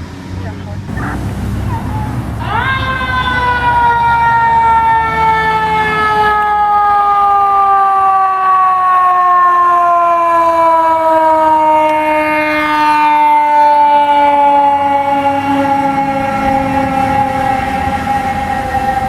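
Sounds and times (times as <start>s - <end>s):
truck engine rumble: 0.0s - 8.6s, 9.8s - 19.0s
fire truck siren wailing: 0.9s - 19.0s
higher siren tone: 0.9s - 19.0s.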